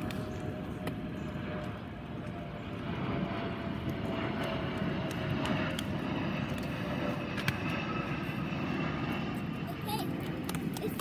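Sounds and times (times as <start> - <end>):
aircraft engine droning overhead: 0.0 - 11.0.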